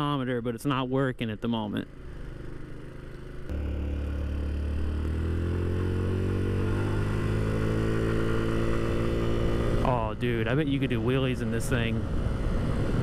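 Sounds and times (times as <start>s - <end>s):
scooter engine accelerating: 1.9s - 13.0s.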